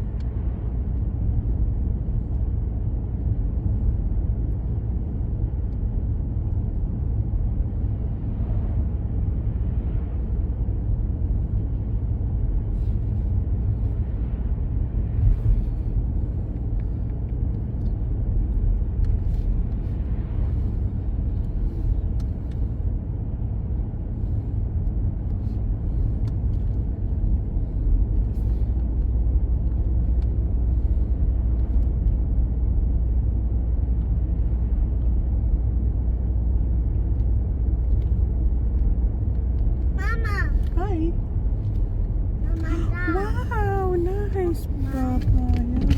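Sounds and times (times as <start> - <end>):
vehicle rumble from inside cabin: 0.0 - 45.9.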